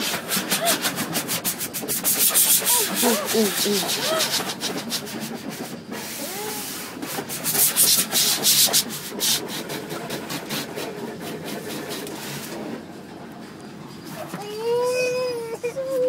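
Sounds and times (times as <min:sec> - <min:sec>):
car wash brushes scrubbing: 0:00.0 - 0:12.9.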